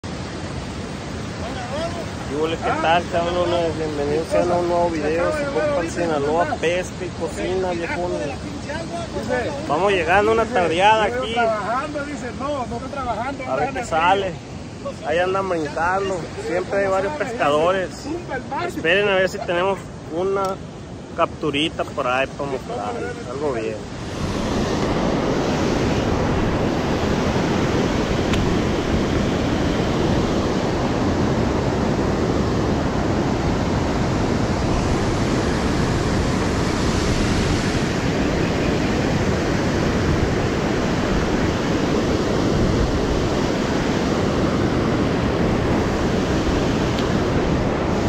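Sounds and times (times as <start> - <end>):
whitewater rushing over spillway: 0.0 - 48.0
wind on microphone: 0.0 - 48.0.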